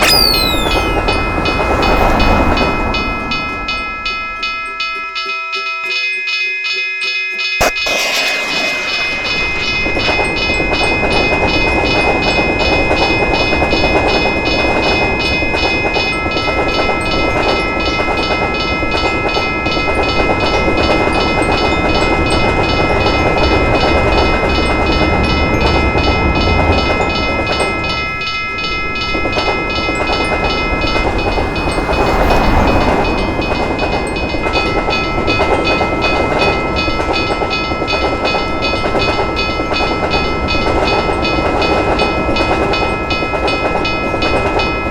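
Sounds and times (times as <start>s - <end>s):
crossing signal bell ringing: 0.0s - 44.9s
train rumble and wheel clatter: 1.0s - 5.6s, 7.6s - 44.9s.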